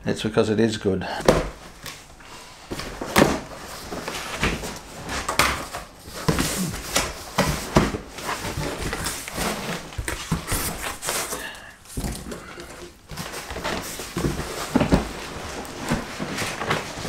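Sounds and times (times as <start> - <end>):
cardboard scraping and rustling: 2.7 - 17.0.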